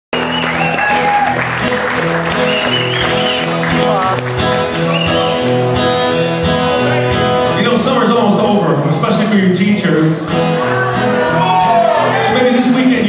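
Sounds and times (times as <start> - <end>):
acoustic guitar strumming: 0.2 - 13.0.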